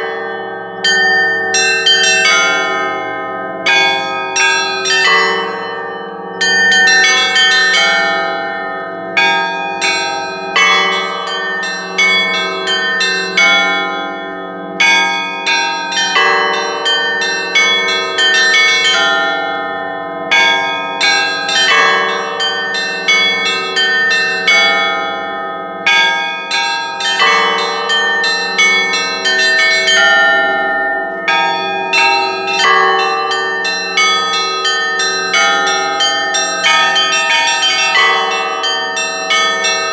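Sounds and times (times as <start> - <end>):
deep hum of large bell: 0.0 - 39.9
heavy bell strikes: 0.0 - 39.9.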